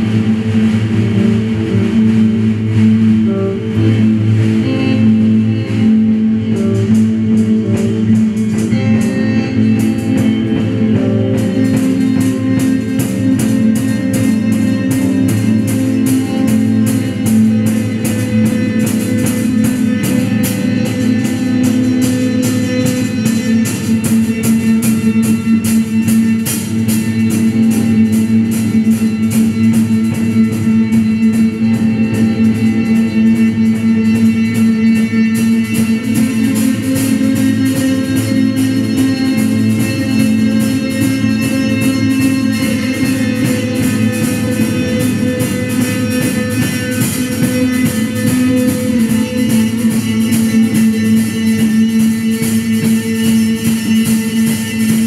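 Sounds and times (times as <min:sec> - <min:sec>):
droning guitar and bass: 0:00.0 - 0:55.0
drum and cymbal strokes: 0:00.0 - 0:55.0.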